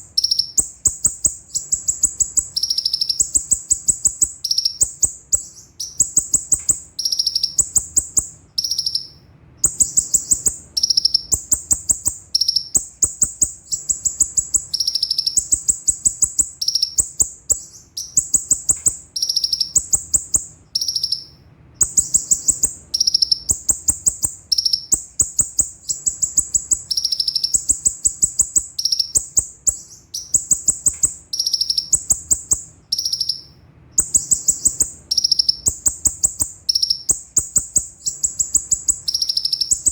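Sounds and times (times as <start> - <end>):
sunbird singing high trills: 0.0 - 39.9.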